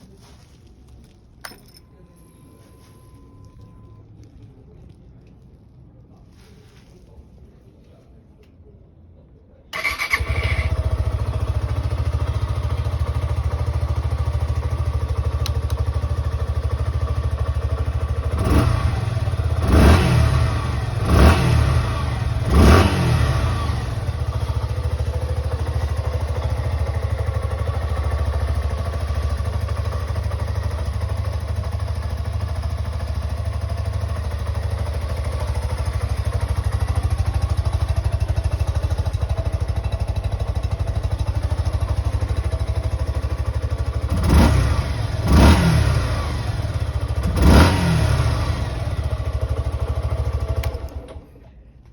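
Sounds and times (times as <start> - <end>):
motorcycle engine idling and revving: 9.8 - 51.9.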